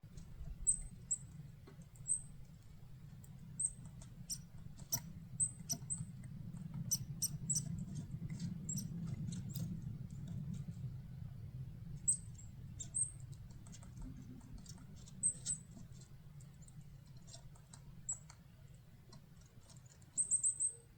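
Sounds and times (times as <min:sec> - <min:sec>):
steady low rumble: 0:00.0 - 0:19.1.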